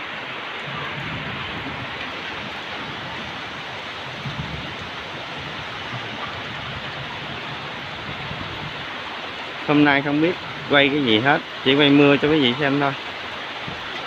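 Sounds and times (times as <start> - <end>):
steady rain on foliage: 0.0 - 14.0.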